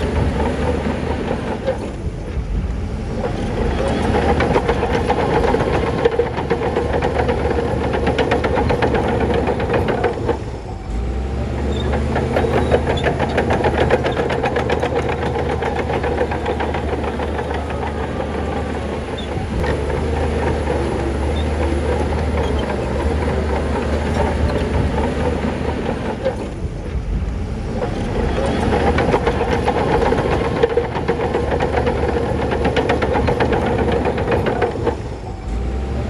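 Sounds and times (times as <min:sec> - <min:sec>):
bulldozer diesel engine running: 0:00.0 - 0:36.0
tracks rattling and clanking: 0:00.0 - 0:36.0.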